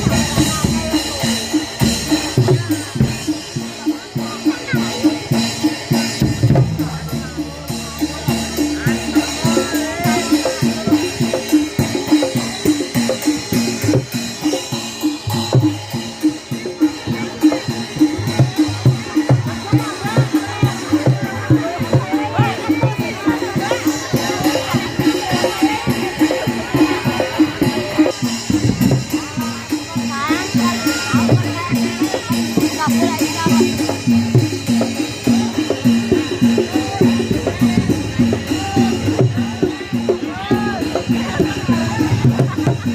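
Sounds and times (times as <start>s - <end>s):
drums beating fast rhythm: 0.0s - 42.9s
metal percussion ringing: 0.0s - 42.9s.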